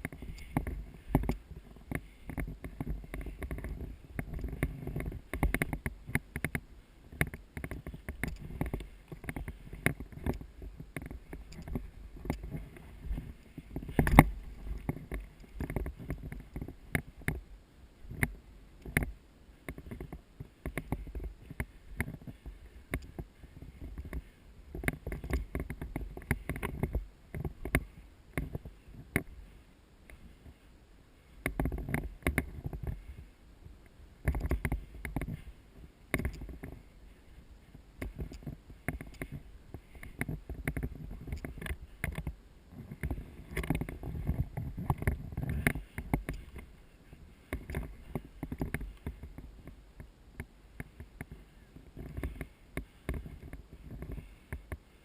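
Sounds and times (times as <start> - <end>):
rustling and handling noise: 0.0 - 55.0.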